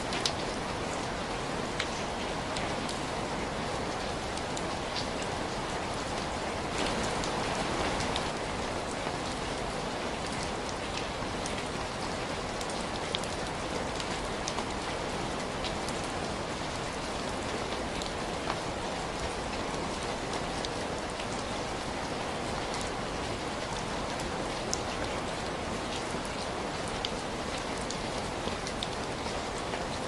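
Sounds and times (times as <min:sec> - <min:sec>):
rain falling on a surface: 0:00.0 - 0:30.0.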